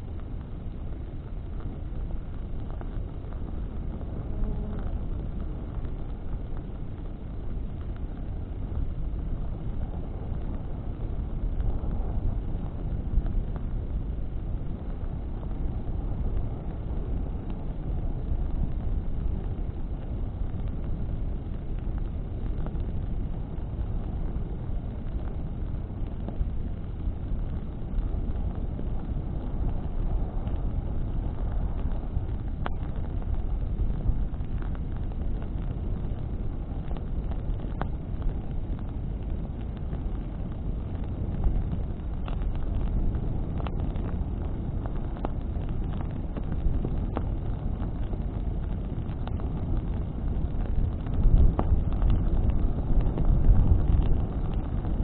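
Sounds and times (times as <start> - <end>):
branches crackling in fire: 0.0 - 55.0
wind and flame rumble: 0.0 - 55.0.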